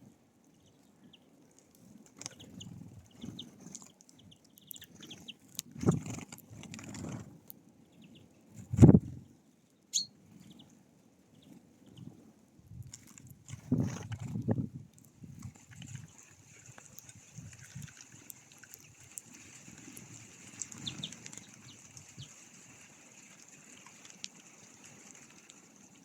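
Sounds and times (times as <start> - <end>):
small songbirds chirping: 0.5 - 12.8, 15.3 - 26.0.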